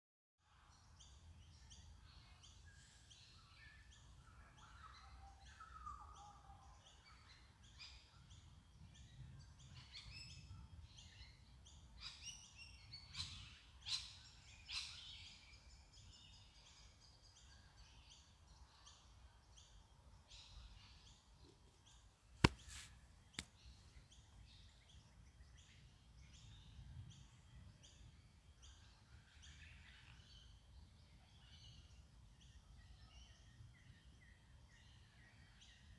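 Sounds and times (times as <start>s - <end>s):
small birds chirping and singing: 0.4s - 35.9s.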